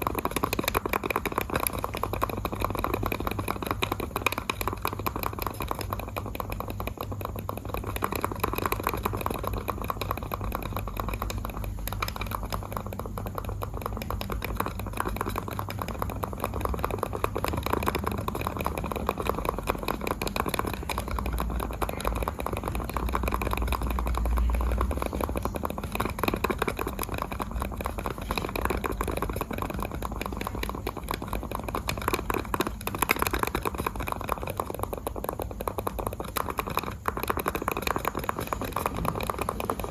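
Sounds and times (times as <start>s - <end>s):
low steady hum: 0.0s - 39.9s
mouse buttons clicking rapidly: 0.0s - 39.9s.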